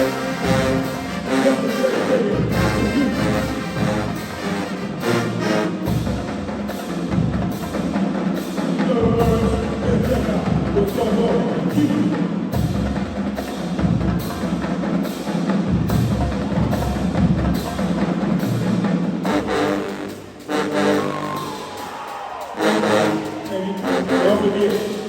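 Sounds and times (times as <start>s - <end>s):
heavy drumline hits: 0.0s - 25.0s
marching band music: 0.0s - 25.0s.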